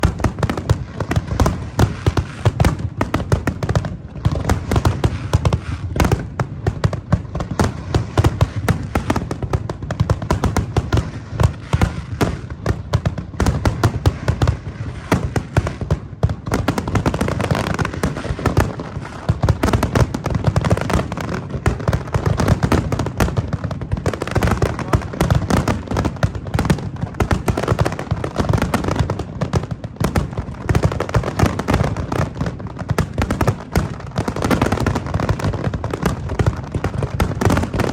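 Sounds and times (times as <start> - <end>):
deep firework booms: 0.0 - 37.9
fireworks bangs and crackles: 0.0 - 37.9.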